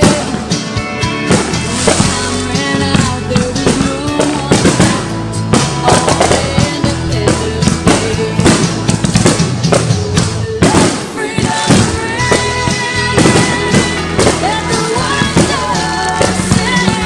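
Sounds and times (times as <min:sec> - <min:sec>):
fireworks bursting: 0:00.0 - 0:17.0
music with drums: 0:00.0 - 0:17.0.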